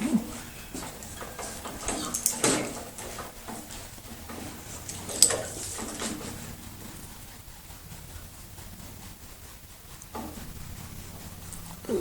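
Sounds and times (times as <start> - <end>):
rustling burst: 0.4 - 12.0.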